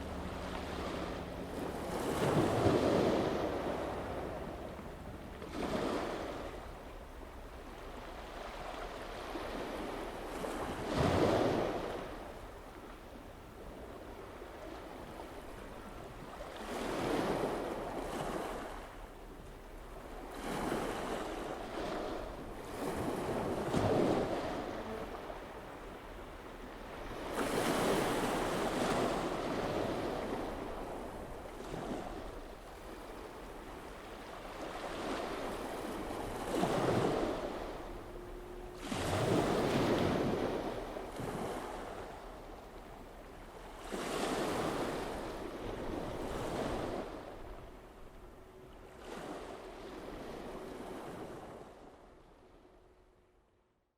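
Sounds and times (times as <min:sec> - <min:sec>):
waves on open water: 0:00.0 - 0:53.7
wind: 0:00.0 - 0:53.9.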